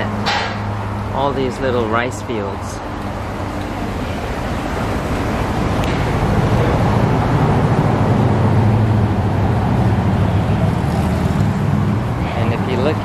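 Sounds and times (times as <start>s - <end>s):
low machine drone: 0.0s - 13.0s.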